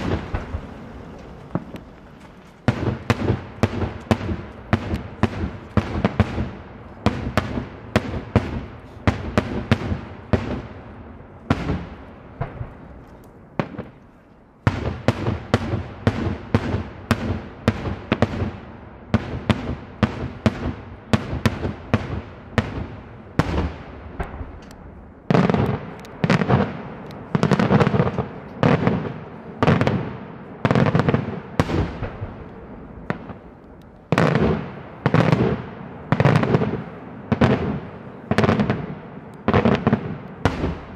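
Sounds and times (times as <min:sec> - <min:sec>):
deep fireworks booms: 0:00.0 - 0:40.9
fireworks sharp bangs: 0:00.0 - 0:40.9.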